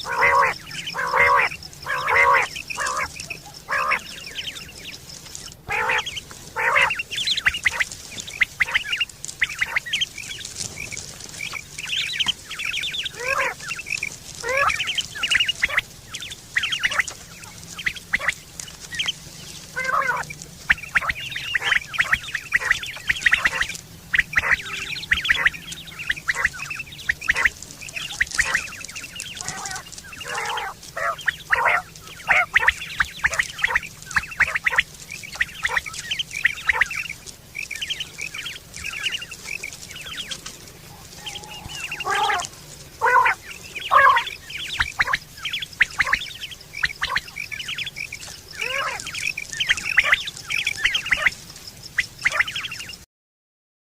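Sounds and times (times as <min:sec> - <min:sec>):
quail calling: 0:00.0 - 0:53.0.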